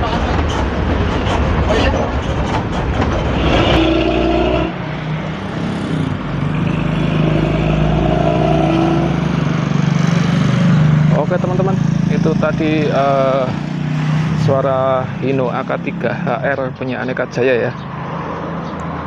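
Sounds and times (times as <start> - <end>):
bus diesel engine growling: 0.0 - 17.8.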